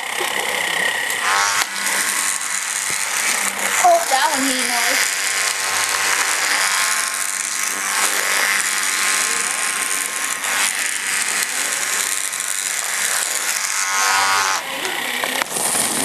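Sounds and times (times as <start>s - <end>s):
toy robots buzzing and whirring: 0.0s - 16.0s.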